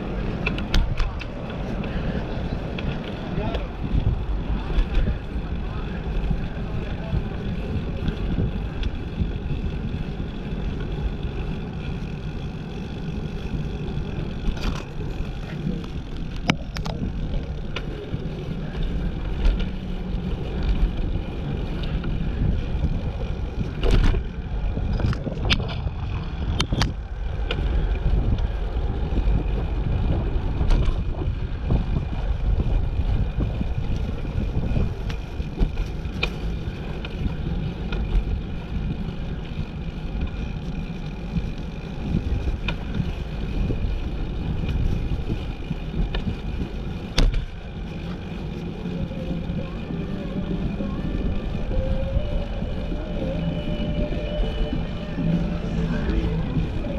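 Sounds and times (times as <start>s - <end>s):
bicycle clicks and rattles: 0.0s - 56.9s
wind rumbling over microphone: 0.0s - 56.9s.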